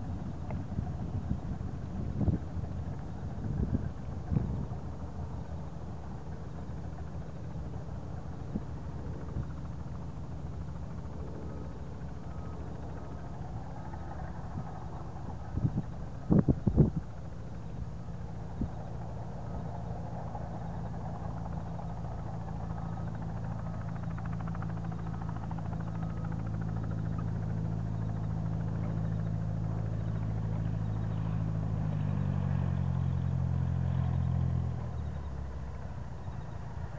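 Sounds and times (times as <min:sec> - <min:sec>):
light aircraft engine and propeller: 0:00.0 - 0:36.9.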